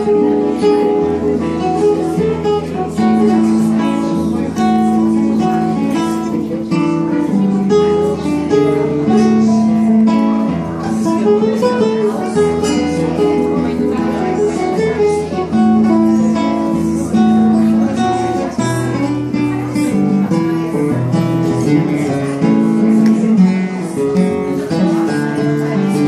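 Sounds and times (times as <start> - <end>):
acoustic guitar music: 0.0 - 26.0.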